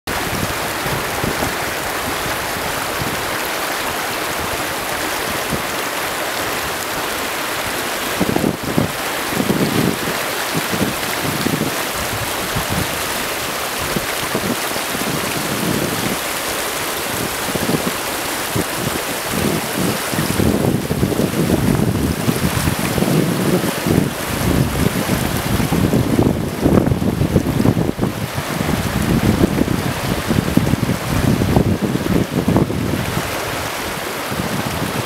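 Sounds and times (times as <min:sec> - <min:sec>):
wind buffeting microphone: 0:00.1 - 0:35.0.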